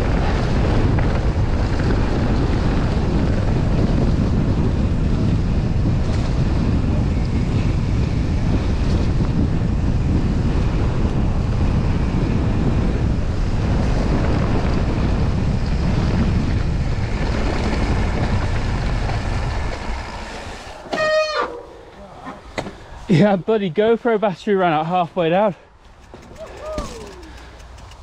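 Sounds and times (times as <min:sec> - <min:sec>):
mountain bike rumbling downhill: 0:00.0 - 0:23.4, 0:25.9 - 0:28.0
wind buffeting microphone: 0:00.0 - 0:23.9, 0:25.7 - 0:28.0.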